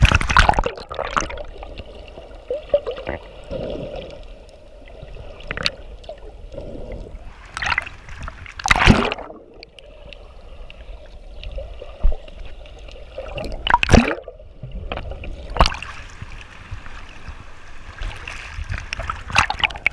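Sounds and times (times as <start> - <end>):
water splashing rushes: 0.0 - 9.7, 13.0 - 19.9
muffled underwater churning and bubbling: 0.0 - 19.9.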